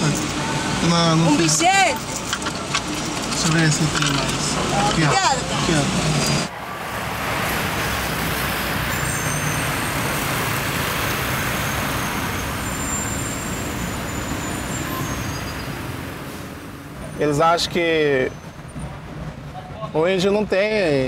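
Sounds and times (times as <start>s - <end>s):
cars passing on street: 0.0s - 21.0s.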